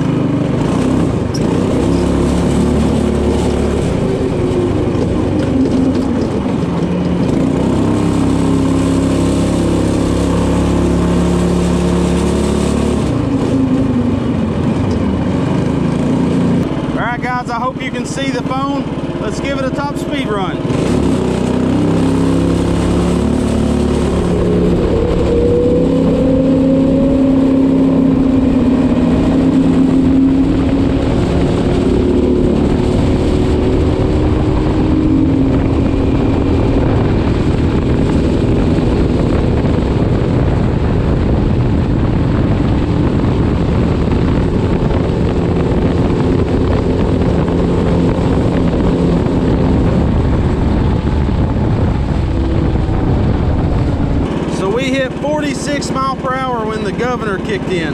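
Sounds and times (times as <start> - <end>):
go kart engine at full throttle: 0.0 - 57.9
wind rush on microphone: 0.0 - 57.9.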